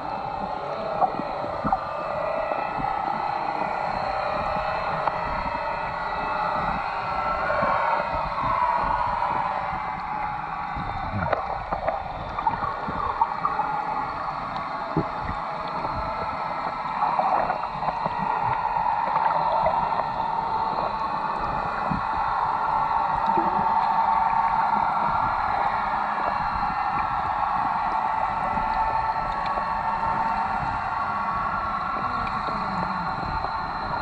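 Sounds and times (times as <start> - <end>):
faint hum: 0.0 - 34.0
muffled underwater drone: 0.0 - 34.0
faint clicks and crackles: 0.1 - 1.9, 8.3 - 34.0.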